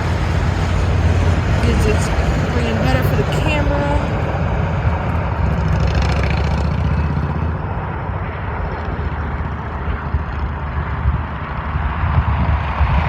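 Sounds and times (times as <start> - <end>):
jet aircraft engines rumbling: 0.0 - 13.0.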